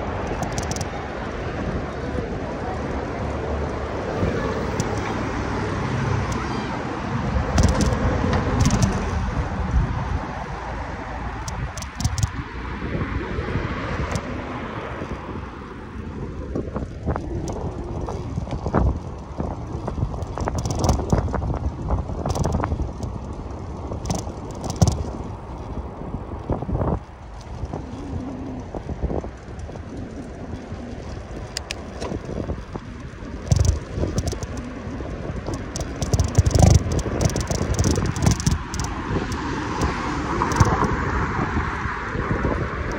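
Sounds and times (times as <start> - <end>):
bicycle knocks and rattles: 0.0 - 1.9, 4.2 - 10.5, 11.2 - 12.5, 16.0 - 42.9
bicycle tyre noise: 0.0 - 42.9
wind rushing on microphone: 0.0 - 42.9.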